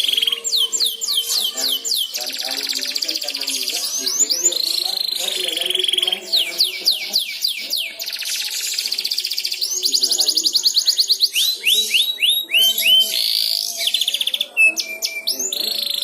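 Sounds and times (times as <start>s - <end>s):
canary singing trills: 0.0s - 16.0s.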